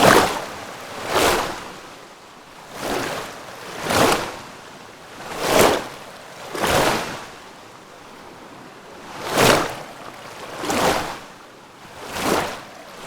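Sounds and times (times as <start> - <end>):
water rushing in surges: 0.0 - 13.0.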